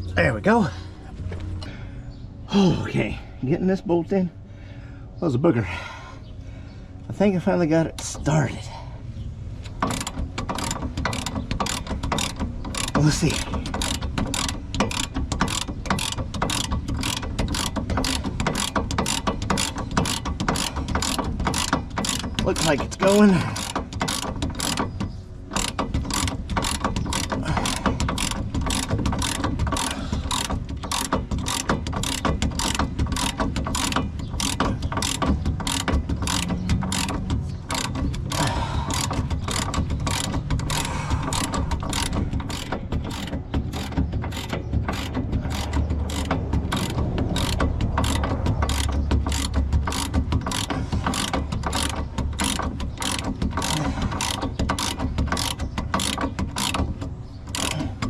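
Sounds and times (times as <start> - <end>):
hand ratchet wrench clicking: 9.6 - 58.0.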